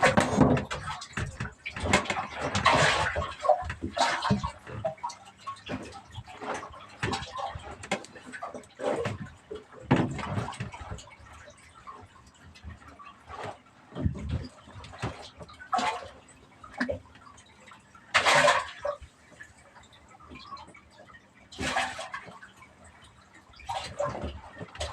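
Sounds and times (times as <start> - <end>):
water splashing and sloshing: 0.0 - 24.9.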